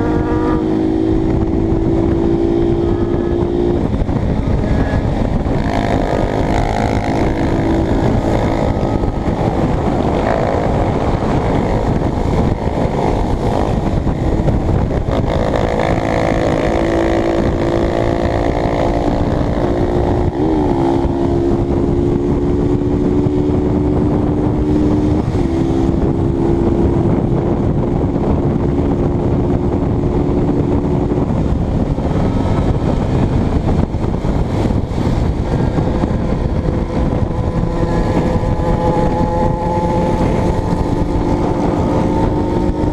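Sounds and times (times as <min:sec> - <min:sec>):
motorcycle engine cruising: 0:00.0 - 0:42.9
wind rush on microphone: 0:00.0 - 0:42.9.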